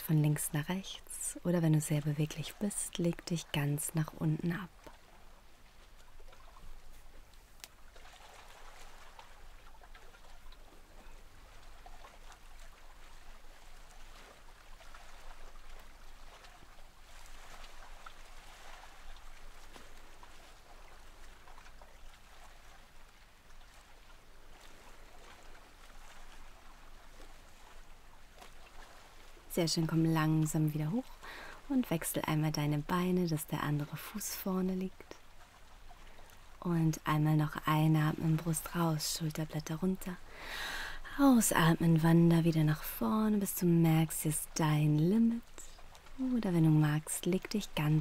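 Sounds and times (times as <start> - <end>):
trickling stream: 0.0 - 48.0.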